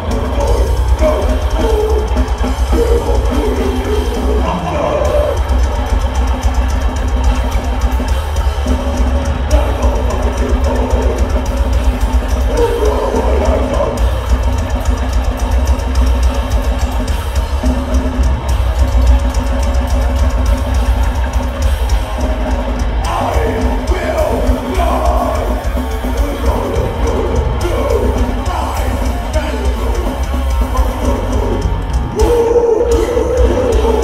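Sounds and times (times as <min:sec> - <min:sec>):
metal band playing live: 0:00.0 - 0:34.0.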